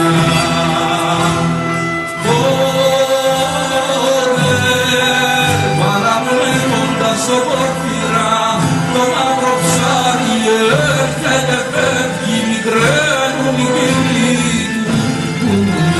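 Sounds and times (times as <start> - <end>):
low bass notes: 0.0 - 15.9.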